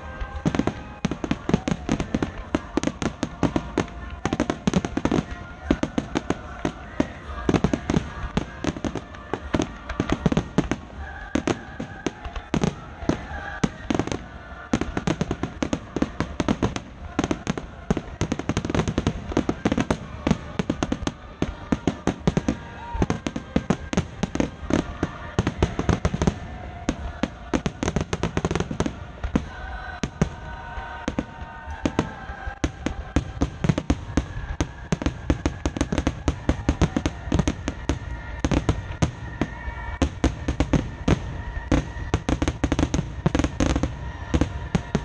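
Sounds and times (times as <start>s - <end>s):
firework whistling: 0.0s - 45.0s.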